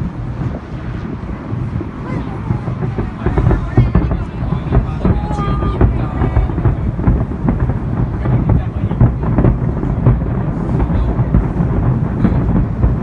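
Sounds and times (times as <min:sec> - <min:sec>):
fireworks barrage: 0:00.0 - 0:13.0.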